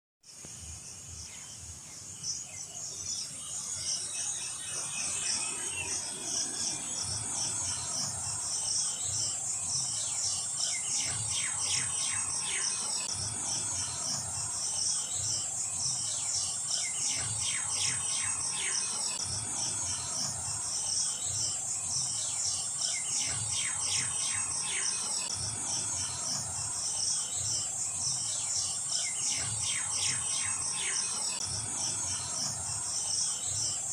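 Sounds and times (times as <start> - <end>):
insects trilling: 0.3 - 33.9.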